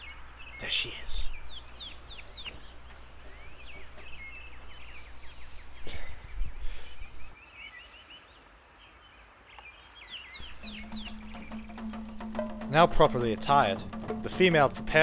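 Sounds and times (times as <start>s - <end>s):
small birds chirping: 0.0s - 14.3s.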